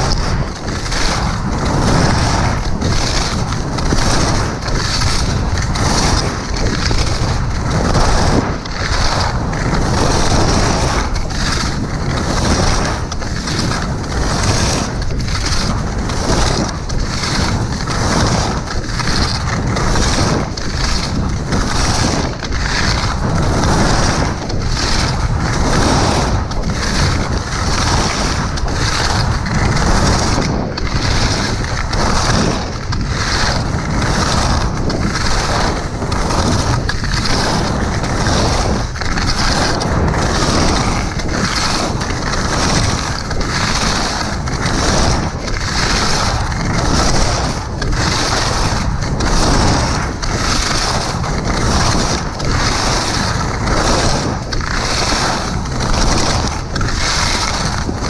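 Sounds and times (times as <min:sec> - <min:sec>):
skis scraping on snow: 0:00.0 - 0:58.0
wind rushing over microphone: 0:00.0 - 0:58.0.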